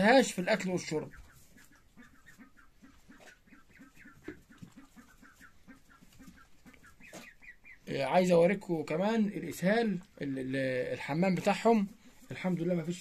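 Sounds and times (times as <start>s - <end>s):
poultry clucking: 0.0s - 13.0s.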